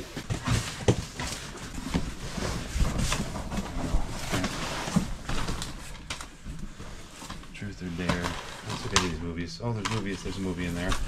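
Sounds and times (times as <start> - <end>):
rummaging through cardboard box: 0.0 - 11.0.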